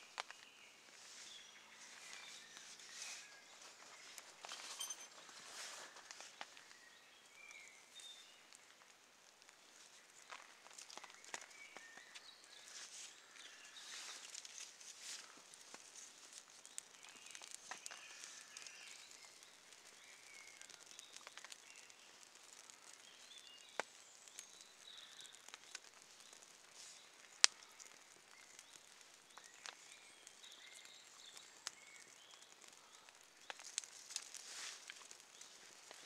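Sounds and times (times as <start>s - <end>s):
faint birdsong: 0.0s - 36.0s.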